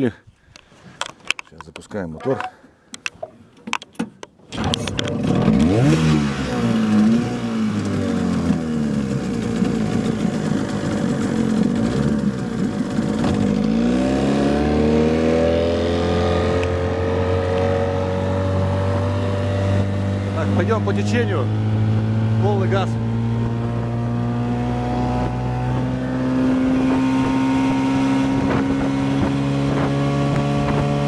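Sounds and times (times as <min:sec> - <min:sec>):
outboard motor revving: 0:04.5 - 0:31.0.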